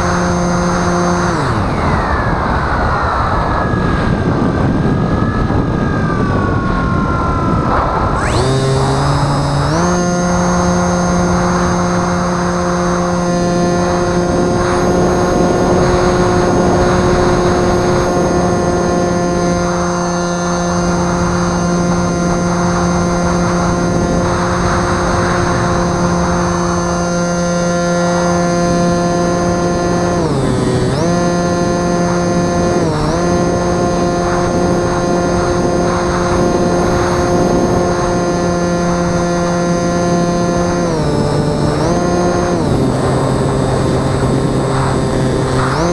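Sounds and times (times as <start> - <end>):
electric motor and propeller whining: 0.0 - 45.9
wind rushing over microphone: 0.0 - 45.9.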